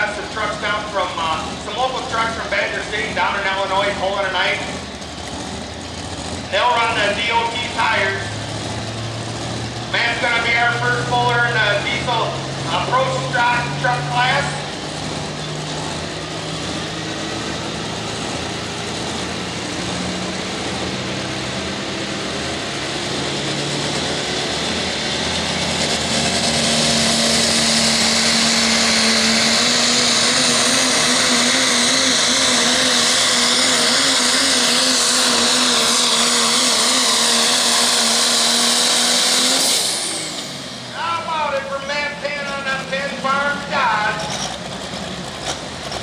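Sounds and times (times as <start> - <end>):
diesel truck engine running: 0.0 - 46.0.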